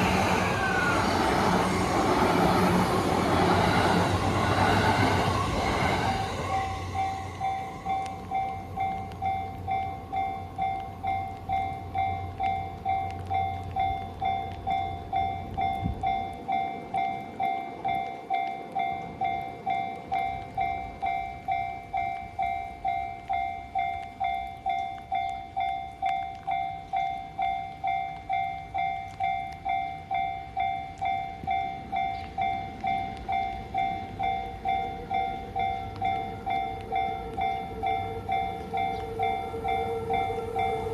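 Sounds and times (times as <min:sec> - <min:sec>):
level crossing warning bell: 0:00.0 - 0:40.9
train rumbling past: 0:00.0 - 0:40.9.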